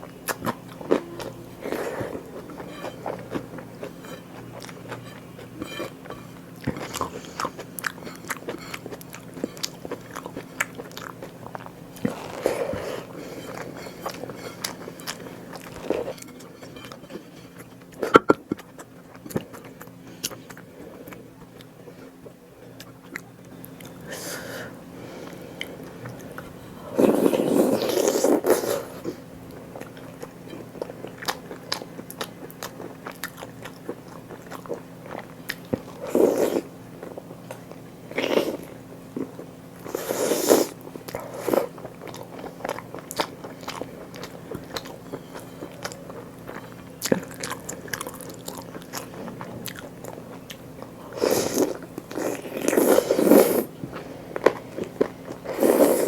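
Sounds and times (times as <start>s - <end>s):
person chewing food: 0.0s - 22.1s, 25.2s - 56.0s.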